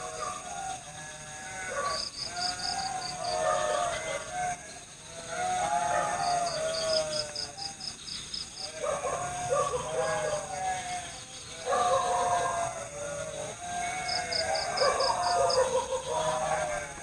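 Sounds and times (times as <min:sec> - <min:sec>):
crickets trilling: 0:00.0 - 0:17.0
frogs bleating calls: 0:00.0 - 0:17.0.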